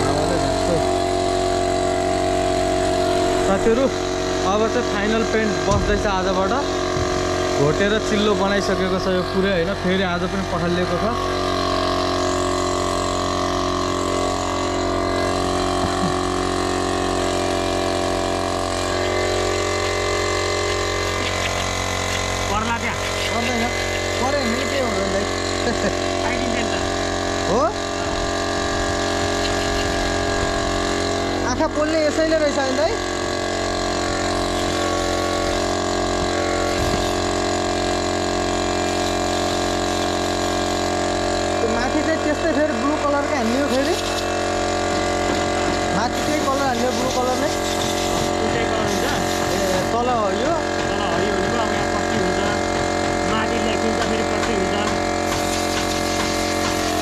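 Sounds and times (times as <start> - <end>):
air compressor humming: 0.0 - 57.0.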